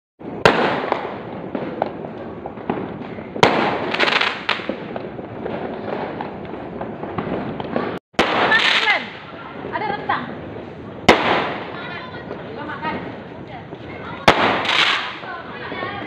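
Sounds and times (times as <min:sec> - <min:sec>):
distant fireworks rumble: 0:00.2 - 0:16.0
firework crackle: 0:00.2 - 0:16.0
nearby firework bangs: 0:00.3 - 0:10.0, 0:11.0 - 0:13.1, 0:13.7 - 0:16.0.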